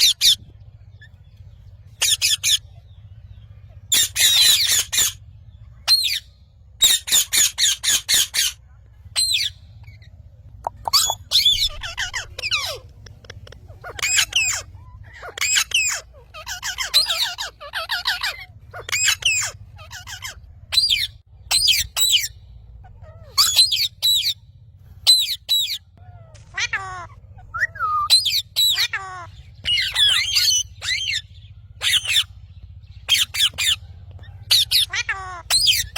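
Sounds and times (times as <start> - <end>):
parrots squawking: 0.0 - 0.4, 2.0 - 3.0, 3.7 - 5.2, 5.9 - 24.4, 25.0 - 35.9.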